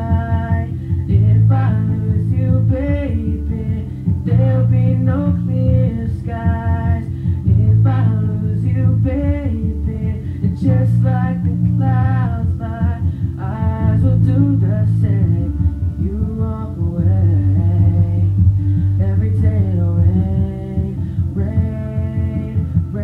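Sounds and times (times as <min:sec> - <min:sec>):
guitar accompaniment: 0:00.0 - 0:23.0
man singing a pop ballad: 0:00.0 - 0:23.0.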